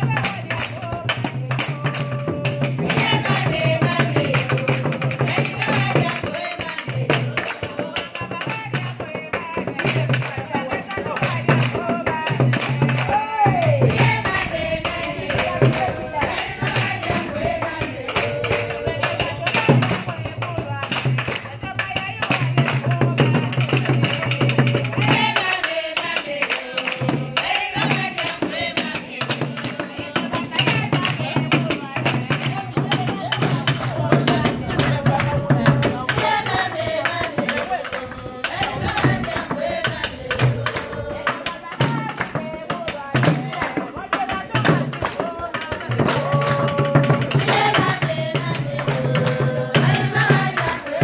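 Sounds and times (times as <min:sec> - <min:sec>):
rhythmic hand clapping: 0:00.0 - 0:51.0
women singing together: 0:00.0 - 0:51.0.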